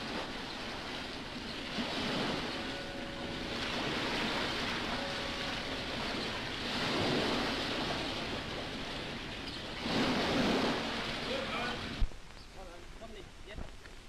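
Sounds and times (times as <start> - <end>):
water churning and splashing: 0.0 - 12.1.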